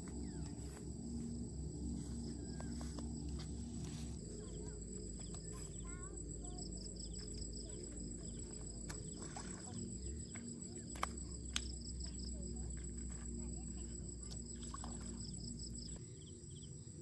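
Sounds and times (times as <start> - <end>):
insects trilling: 0.0 - 17.0
low outdoor background noise: 0.0 - 17.0.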